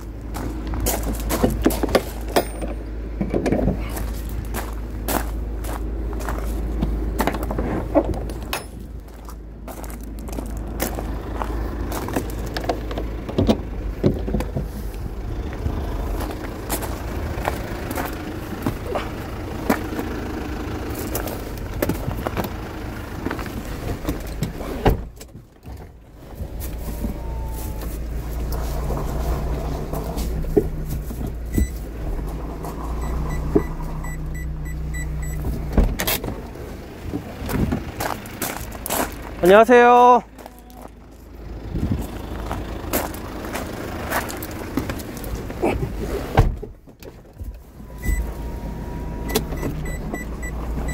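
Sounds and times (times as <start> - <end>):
vehicle engine rumbling: 0.0 - 50.9.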